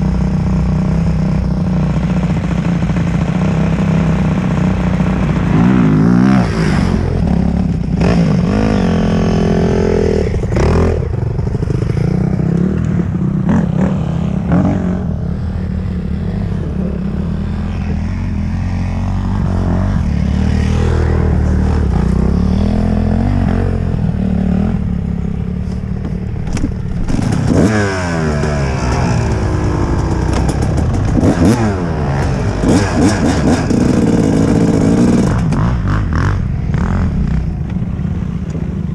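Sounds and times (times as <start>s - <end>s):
dirt bike engine revving: 0.0s - 37.5s.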